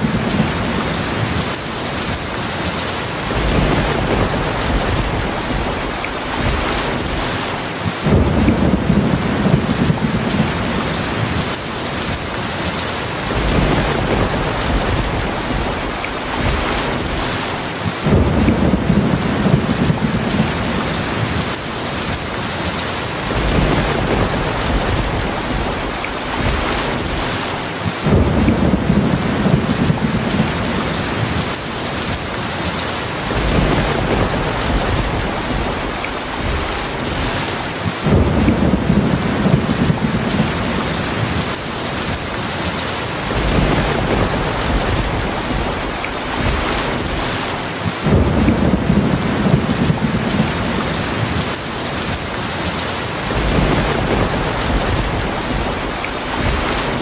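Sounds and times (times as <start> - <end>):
heavy rain falling: 0.0 - 57.0
thunder rolling: 3.1 - 12.1, 13.1 - 22.1, 23.1 - 32.1, 33.1 - 42.1, 43.2 - 52.1, 53.1 - 57.0.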